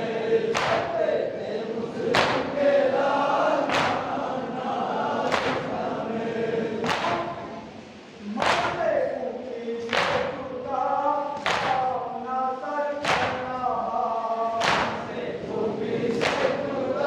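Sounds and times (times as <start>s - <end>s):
men chanting in unison: 0.0s - 17.0s.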